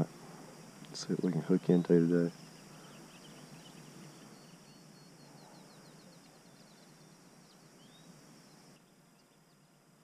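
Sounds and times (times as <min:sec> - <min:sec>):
songbird trilling: 0:01.6 - 0:09.8.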